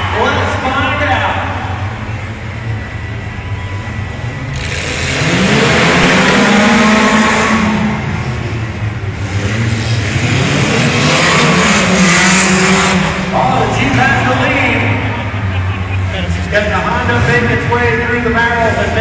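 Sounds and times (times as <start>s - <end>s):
car engines revving hard: 0.0s - 19.0s.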